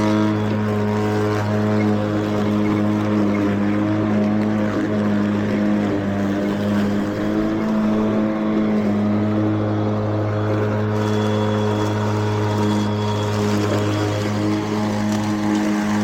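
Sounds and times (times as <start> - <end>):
electric mower motor hum: 0.0 - 16.0.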